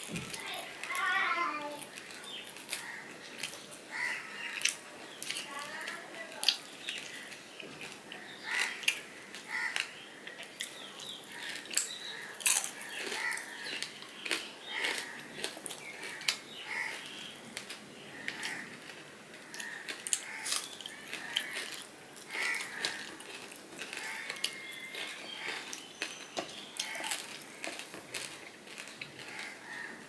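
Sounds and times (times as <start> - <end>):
fingers squishing food: 1.8 - 29.9.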